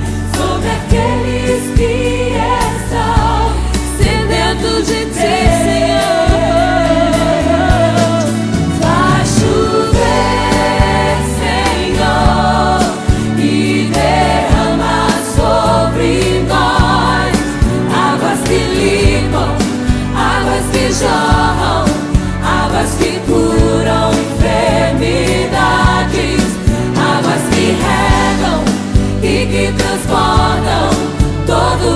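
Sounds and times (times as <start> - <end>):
band with drums: 0.0 - 31.9
bass line: 0.0 - 31.9
people singing with vibrato: 0.0 - 31.9.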